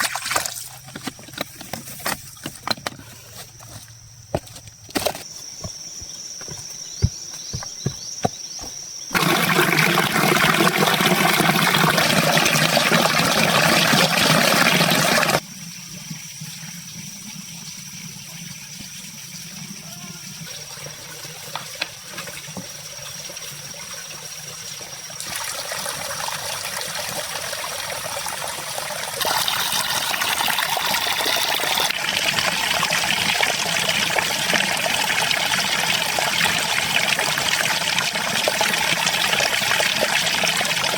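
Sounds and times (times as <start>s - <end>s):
running water: 6.4s - 40.9s.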